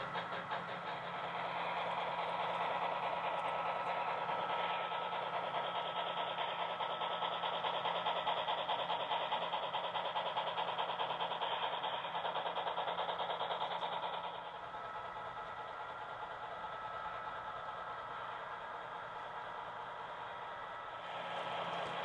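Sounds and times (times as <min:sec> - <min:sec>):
model train pulsing: 0:00.0 - 0:22.0.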